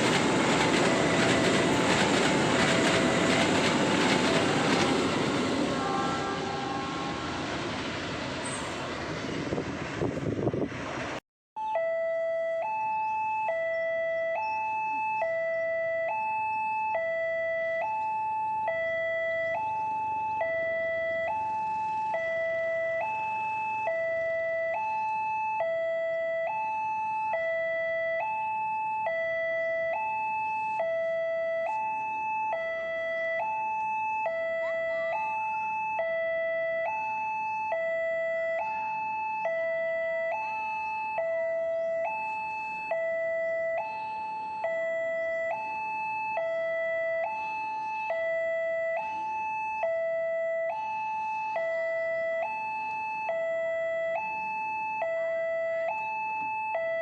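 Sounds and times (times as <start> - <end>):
two-tone crossing alarm: 0.0 - 9.1, 11.6 - 57.0.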